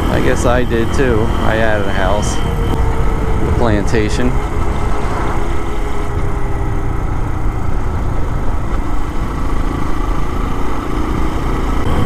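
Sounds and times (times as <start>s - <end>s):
vehicle engine running: 0.0s - 12.0s
wind and road noise: 0.0s - 12.0s.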